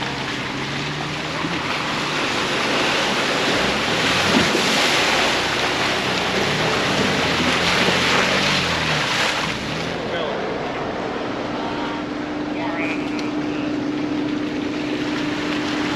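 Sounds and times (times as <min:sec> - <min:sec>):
engine humming low: 0:00.0 - 0:15.9.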